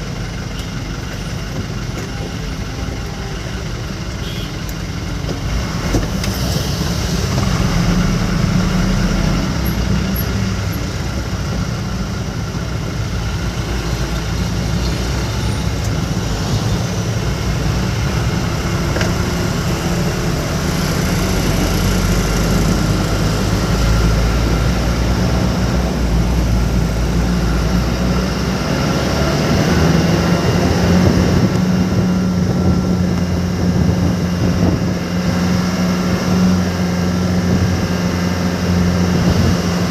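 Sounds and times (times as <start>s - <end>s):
truck engine driving: 0.0s - 39.9s
wet road noise: 0.0s - 39.9s.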